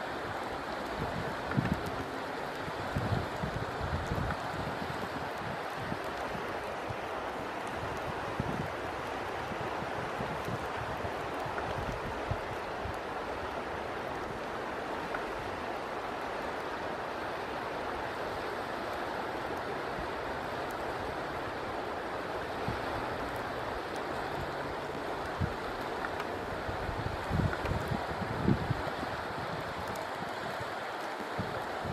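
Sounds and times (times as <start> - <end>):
wind buffeting microphone: 0.0 - 16.5, 22.4 - 31.9
river water rushing: 0.0 - 31.9.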